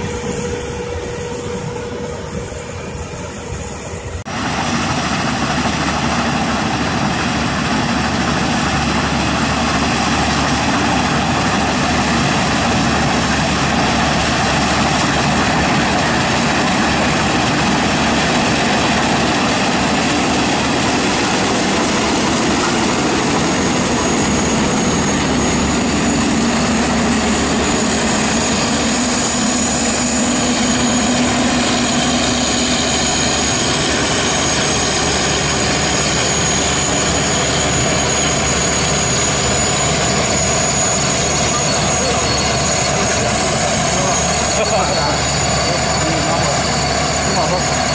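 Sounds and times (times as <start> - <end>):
combine harvester engine droning: 0.0 - 47.9
thin high whine: 6.4 - 47.9.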